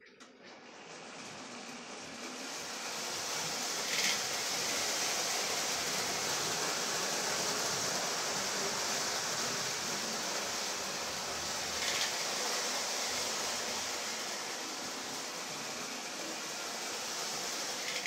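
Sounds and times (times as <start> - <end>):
toy train whirring on track: 0.2 - 18.0.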